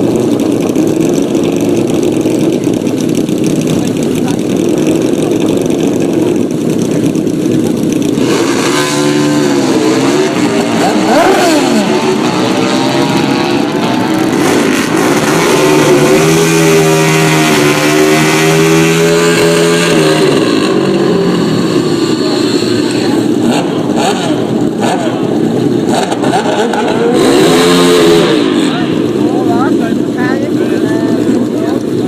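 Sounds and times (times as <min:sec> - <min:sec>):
motorcycle engines revving loud: 0:00.0 - 0:32.0.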